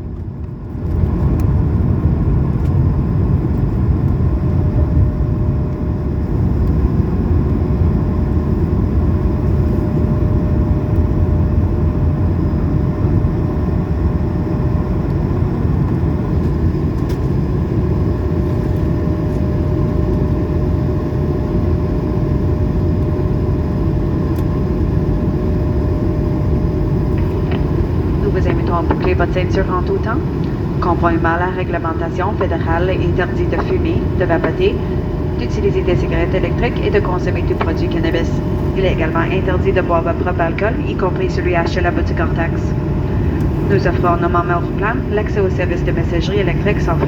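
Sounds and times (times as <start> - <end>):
faint steady whine: 0.0 - 47.0
jet engines rumbling: 0.0 - 47.0.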